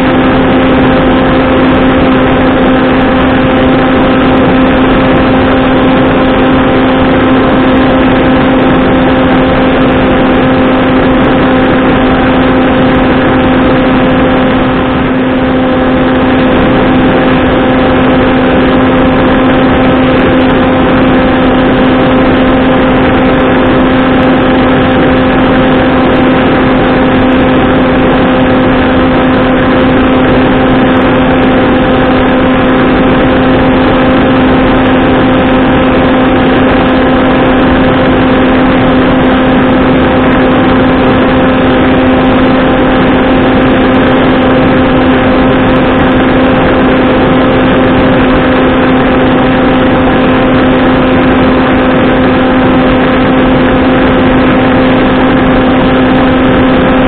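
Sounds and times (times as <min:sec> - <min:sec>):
electric motor and propeller drone: 0:00.0 - 0:57.0
rushing wind noise: 0:00.0 - 0:57.0.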